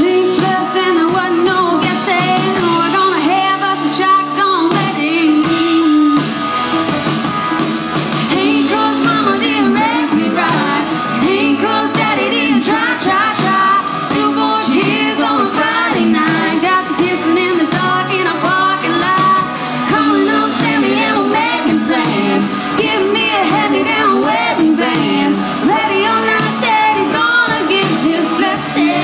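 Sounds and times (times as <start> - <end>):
woman singing: 0.0 - 6.4, 8.3 - 29.0
electric guitar: 0.0 - 29.0
pop rock band playing: 0.0 - 29.0.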